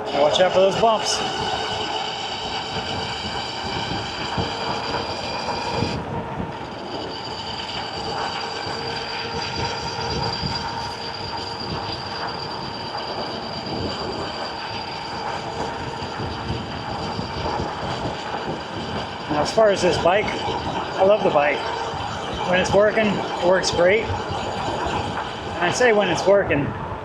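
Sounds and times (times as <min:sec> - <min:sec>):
electric motor whine: 0:00.0 - 0:26.4.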